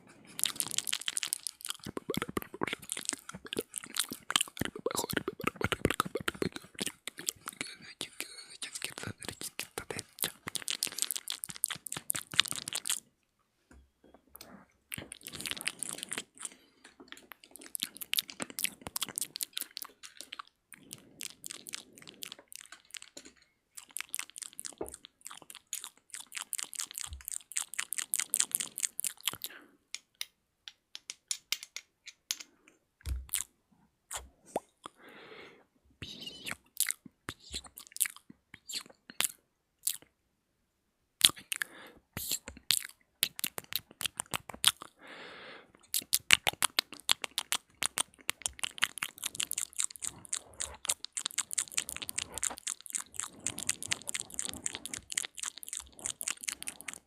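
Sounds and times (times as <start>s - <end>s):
mouth clicks and smacks: 0.1s - 13.1s, 14.4s - 33.5s, 34.1s - 35.0s, 36.0s - 40.1s, 41.2s - 45.0s, 45.7s - 57.0s.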